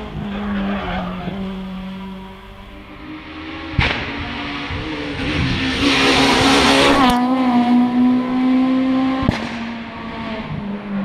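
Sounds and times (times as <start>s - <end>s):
rally car engine passing: 0.0s - 11.0s.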